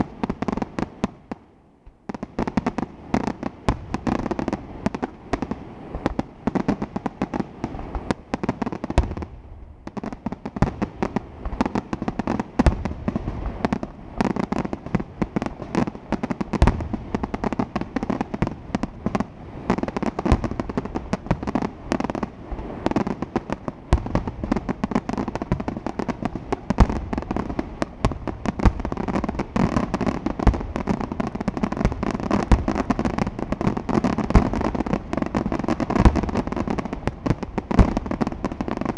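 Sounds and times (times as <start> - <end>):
fireworks crackling: 0.0 - 38.9.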